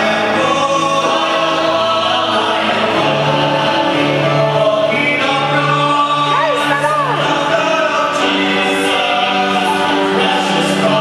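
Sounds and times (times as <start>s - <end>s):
men's choir singing a hymn: 0.0s - 11.0s.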